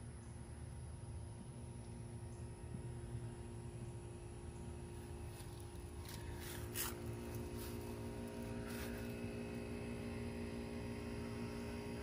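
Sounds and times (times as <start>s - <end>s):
machine droning hum: 0.0s - 12.0s.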